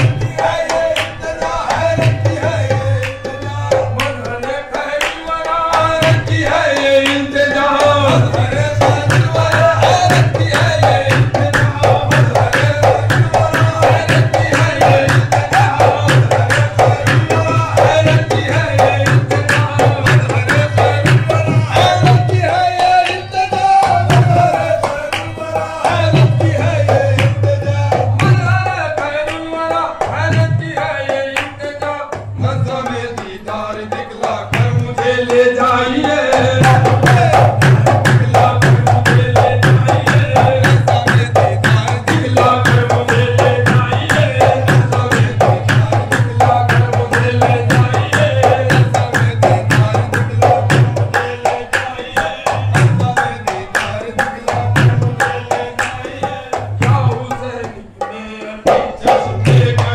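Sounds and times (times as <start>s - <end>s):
voices singing: 0.0s - 59.9s
fast steady drumming: 5.7s - 33.6s, 34.2s - 59.9s.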